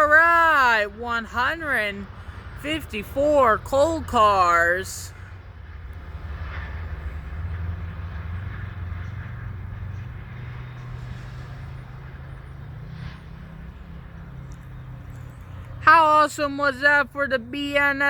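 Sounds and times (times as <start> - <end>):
faint low engine hum: 0.0 - 18.0.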